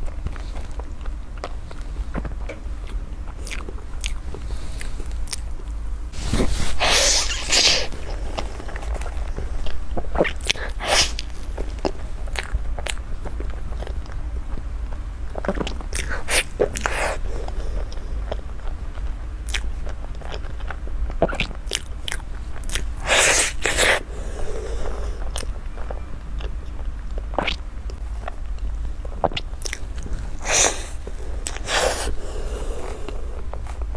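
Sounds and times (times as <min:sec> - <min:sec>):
chewing and biting: 0:00.0 - 0:33.9
steady low hum: 0:00.0 - 0:33.9.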